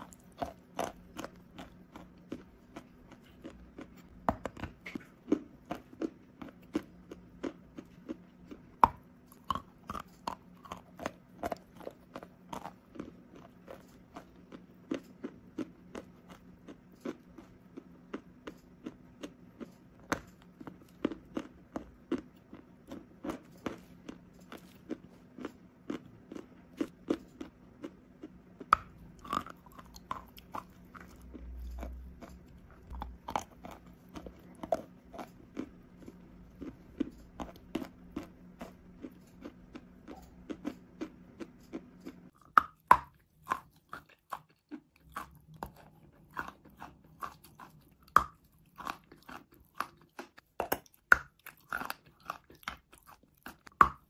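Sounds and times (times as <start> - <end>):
chalk crunching being chewed: 0.0 - 54.0.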